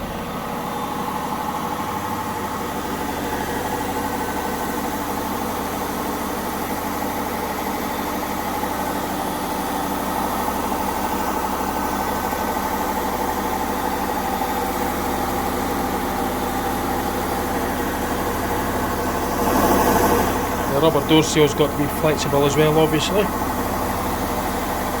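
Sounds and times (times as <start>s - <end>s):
washing machine spinning: 0.0s - 25.0s.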